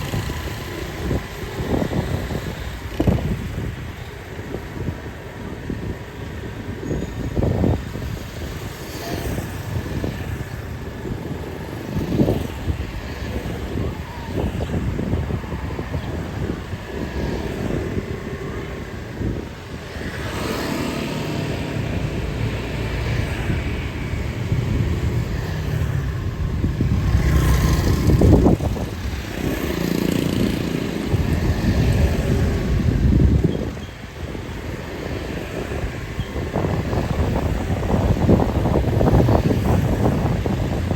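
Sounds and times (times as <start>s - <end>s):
motorbike engines passing: 0.0s - 40.9s
street noise rumble: 0.0s - 40.9s.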